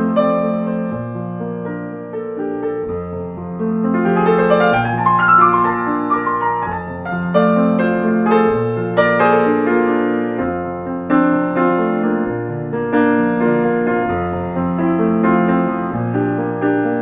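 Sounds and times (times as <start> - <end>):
gentle solo piano: 0.0 - 17.0.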